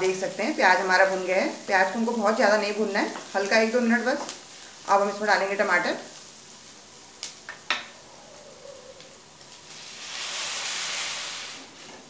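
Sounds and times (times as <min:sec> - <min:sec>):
tomatoes sizzling in butter: 0:00.0 - 0:12.0.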